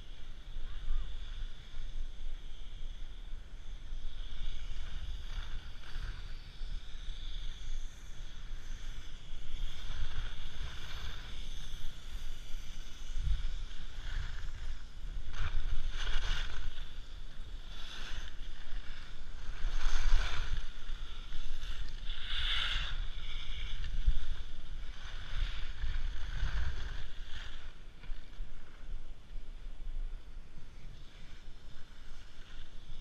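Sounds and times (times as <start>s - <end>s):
skis scraping on snow: 0.0s - 33.0s
wind rumble on microphone: 0.0s - 33.0s.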